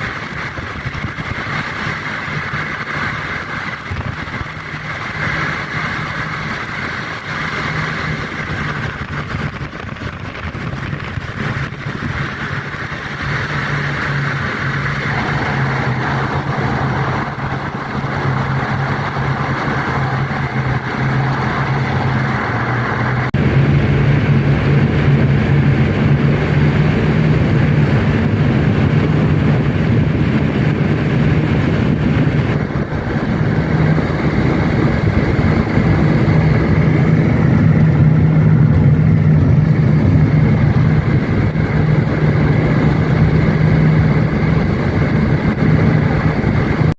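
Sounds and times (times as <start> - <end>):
car engine hum: 0.0 - 46.9
tyre and road noise: 0.0 - 46.9.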